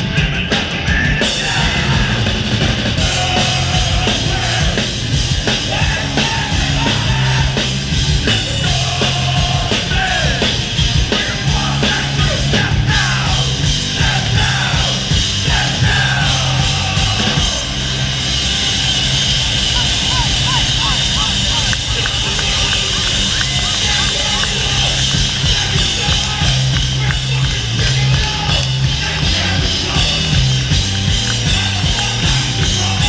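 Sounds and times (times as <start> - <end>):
bass guitar: 0.0 - 33.0
distorted guitars: 0.0 - 33.0
drums: 0.0 - 33.0.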